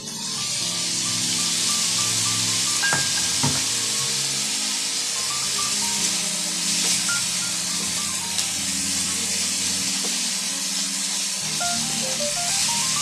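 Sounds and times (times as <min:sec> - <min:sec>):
background music: 0:00.0 - 0:13.0
chicken sizzling in a pan: 0:00.0 - 0:13.0.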